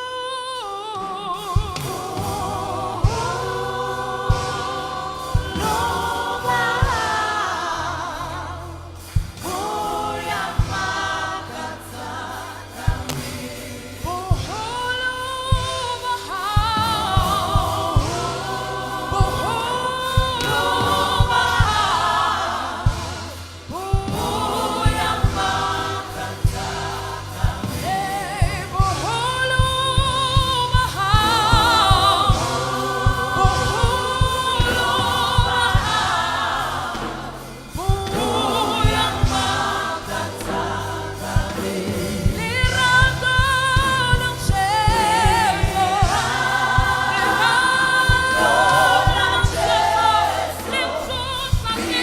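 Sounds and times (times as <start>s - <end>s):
band accompaniment with beat and bass: 0.0s - 52.0s
gospel choir singing: 0.0s - 52.0s.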